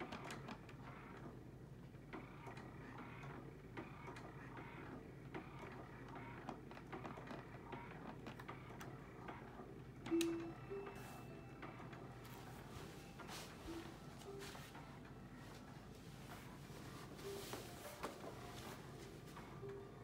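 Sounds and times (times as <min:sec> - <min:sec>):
faint motor hum: 0:00.0 - 0:20.0.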